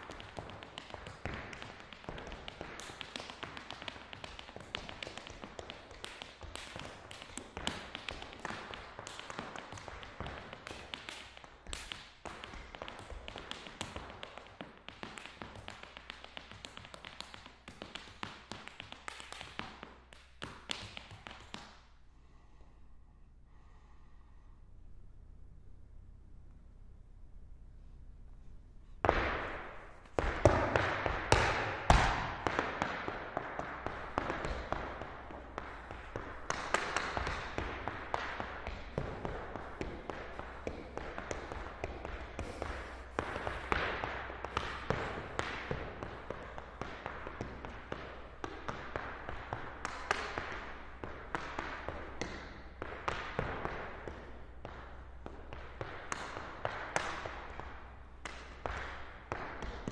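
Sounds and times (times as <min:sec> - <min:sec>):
hard shoes stamping on floor: 0:00.0 - 0:21.7, 0:29.0 - 0:59.9.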